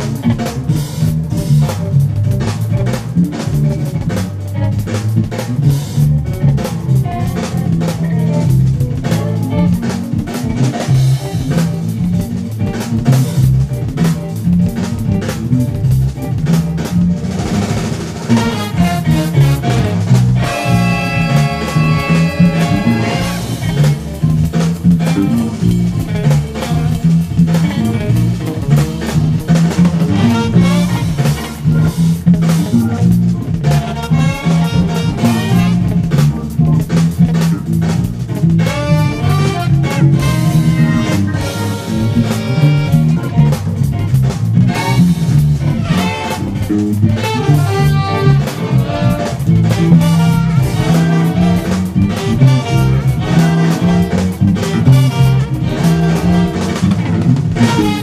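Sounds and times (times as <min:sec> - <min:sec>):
drum-kit groove: 0:00.0 - 0:58.0
electric bass fingerstyle: 0:00.0 - 0:58.0
horn section riffs: 0:00.0 - 0:58.0.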